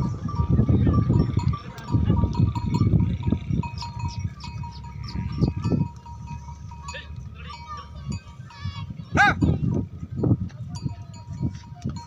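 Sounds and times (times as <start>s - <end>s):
herd rumbling: 0.0s - 12.0s
small bell ringing: 0.0s - 12.0s.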